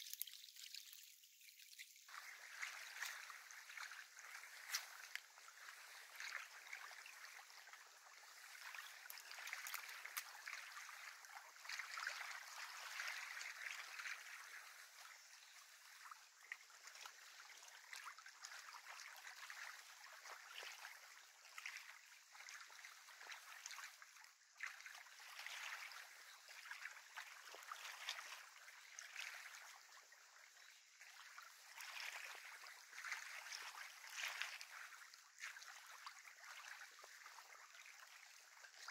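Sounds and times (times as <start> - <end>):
small waves lapping: 0.0 - 38.9.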